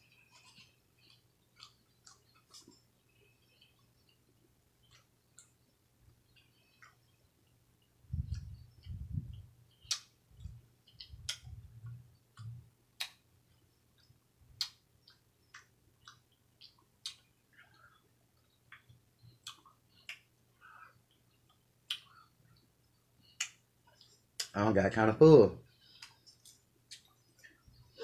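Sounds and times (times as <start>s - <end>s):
faint close-up chewing: 0.0s - 9.0s, 9.7s - 24.5s, 25.7s - 28.0s.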